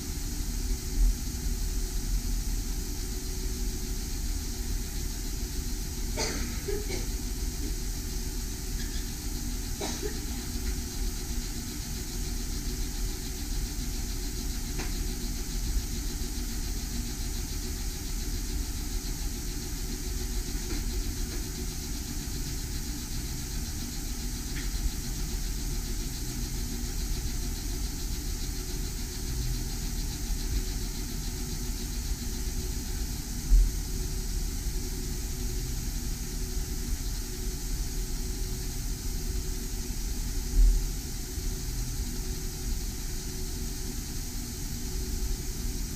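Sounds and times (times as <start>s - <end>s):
laser engraver humming: 0.0s - 45.9s.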